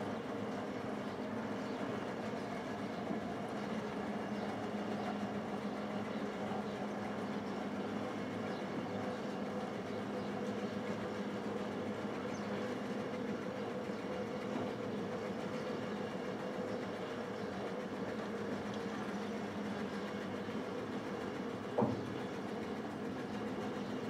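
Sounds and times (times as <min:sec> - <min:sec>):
railcar engine humming: 0:00.0 - 0:24.0.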